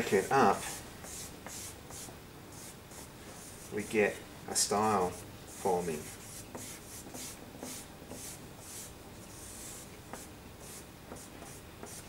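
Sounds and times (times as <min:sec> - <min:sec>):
drawing stick scraping on paper: 0:01.0 - 0:04.0, 0:05.0 - 0:12.0.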